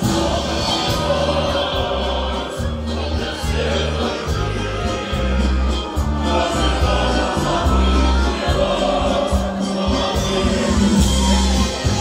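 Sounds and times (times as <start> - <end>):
live band playing: 0.0 - 12.0
many voices singing together: 0.0 - 12.0.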